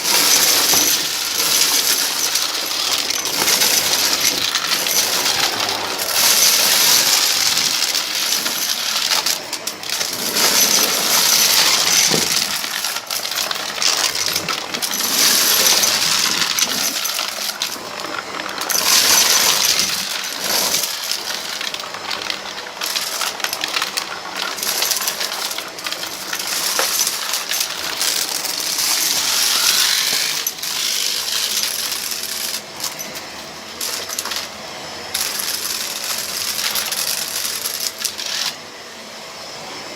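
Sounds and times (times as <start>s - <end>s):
debris rattling and clinking: 0.0s - 38.6s
vacuum cleaner running: 0.0s - 39.9s.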